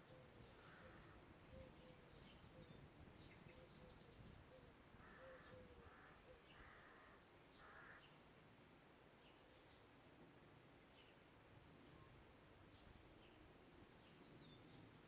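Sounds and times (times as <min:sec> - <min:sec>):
small songbirds chirping: 0:00.0 - 0:08.3, 0:09.1 - 0:15.0.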